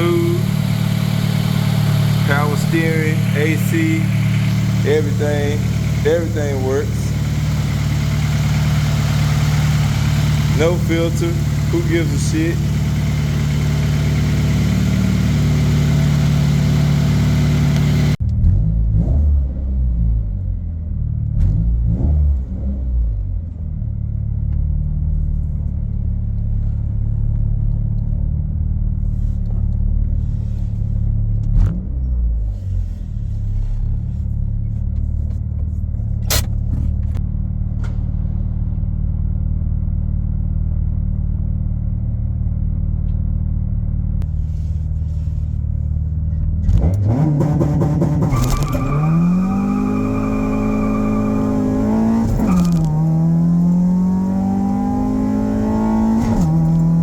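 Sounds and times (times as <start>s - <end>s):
car engine running: 0.0s - 19.1s, 23.1s - 57.0s.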